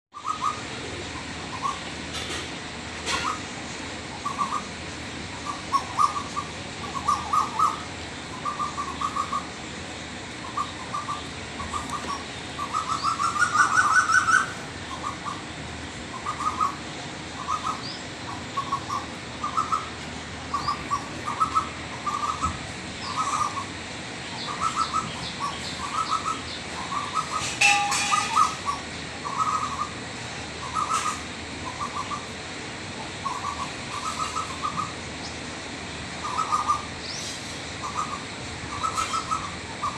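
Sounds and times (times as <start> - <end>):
bird calls: 0.2 - 9.6, 10.3 - 32.4, 33.0 - 35.5, 36.1 - 39.9.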